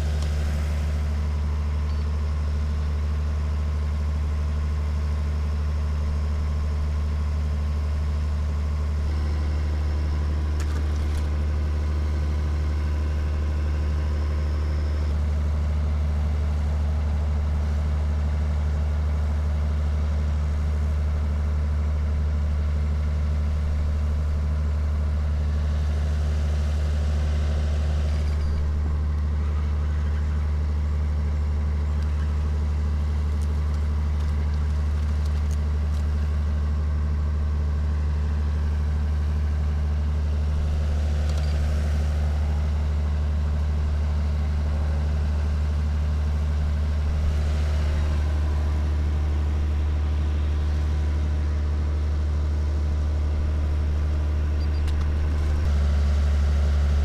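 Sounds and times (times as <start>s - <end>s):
idling engine hum: 0.0s - 57.0s.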